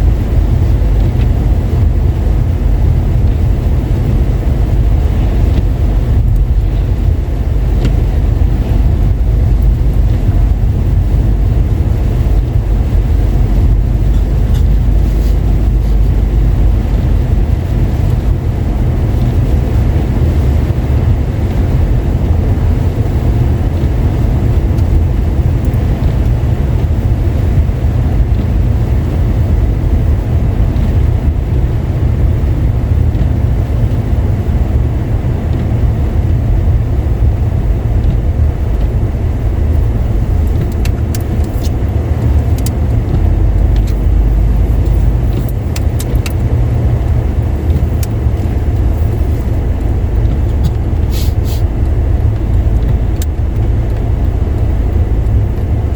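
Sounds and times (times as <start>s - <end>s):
car engine rumble from inside: 0.0s - 55.9s
tyre noise on wet road: 0.0s - 55.9s.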